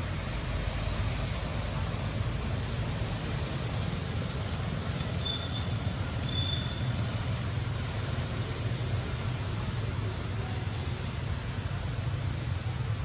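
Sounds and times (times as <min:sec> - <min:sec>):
hiss: 0:00.0 - 0:13.0.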